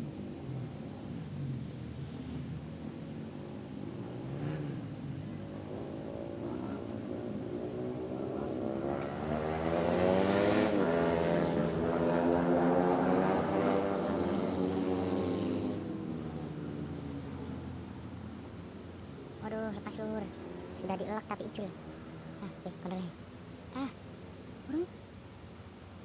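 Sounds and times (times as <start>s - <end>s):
propeller aircraft passing overhead: 0.0s - 26.0s.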